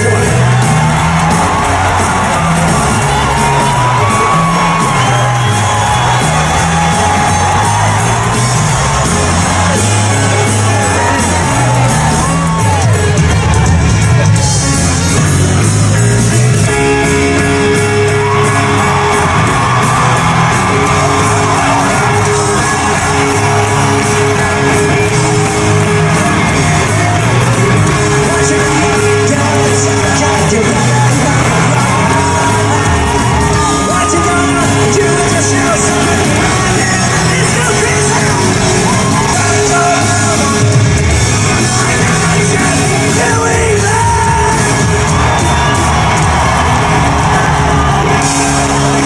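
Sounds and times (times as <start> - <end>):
crowd cheering: 0.0 - 49.0
live rock band with singing: 0.0 - 49.0.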